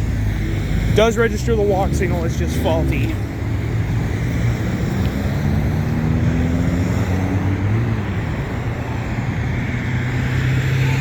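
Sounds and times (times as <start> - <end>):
road traffic: 0.0 - 11.0
vehicle engine accelerating: 0.0 - 11.0.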